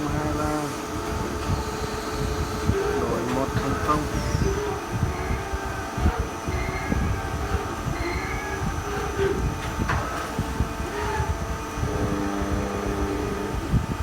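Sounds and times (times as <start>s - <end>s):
workshop machinery rumbling: 0.0s - 14.0s.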